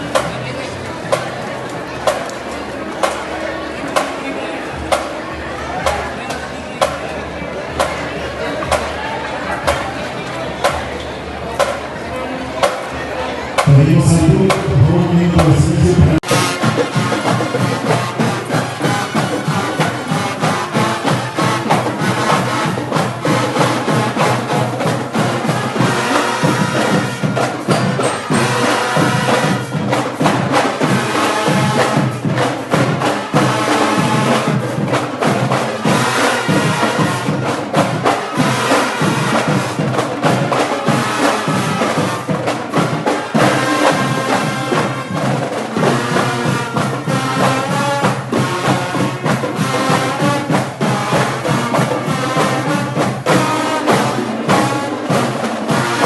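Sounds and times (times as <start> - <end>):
brass band with drums: 0.0 - 56.0.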